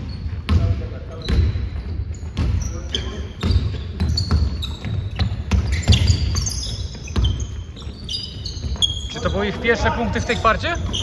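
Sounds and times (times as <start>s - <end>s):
basketball bouncing on wooden floor: 0.0s - 11.0s
sneakers squeaking: 0.0s - 11.0s.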